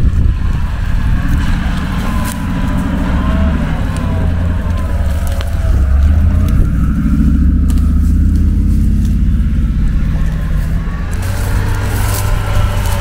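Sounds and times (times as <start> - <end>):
suv engine under load: 0.0 - 13.0.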